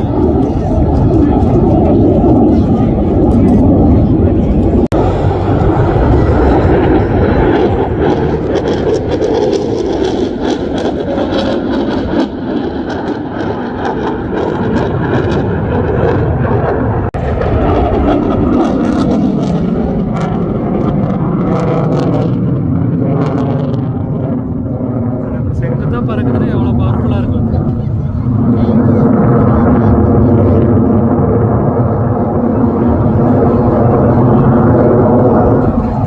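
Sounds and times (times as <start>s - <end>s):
loud crackling jet noise: 0.0s - 36.0s.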